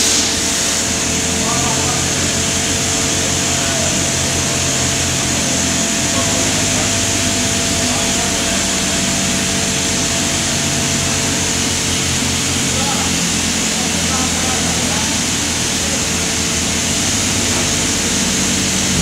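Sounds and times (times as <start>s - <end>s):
low machinery rumble: 0.0s - 19.0s
steady whining tones: 0.0s - 19.0s.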